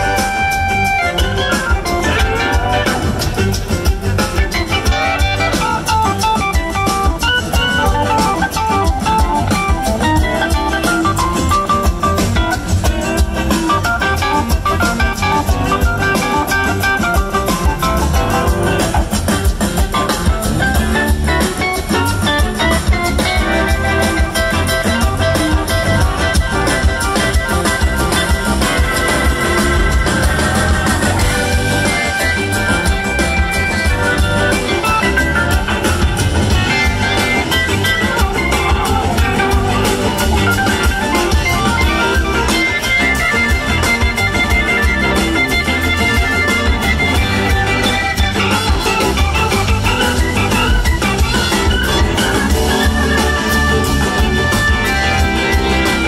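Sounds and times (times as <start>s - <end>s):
electric guitar: 0.0s - 56.0s
live blues-rock band playing: 0.0s - 56.0s
organ: 0.0s - 56.0s.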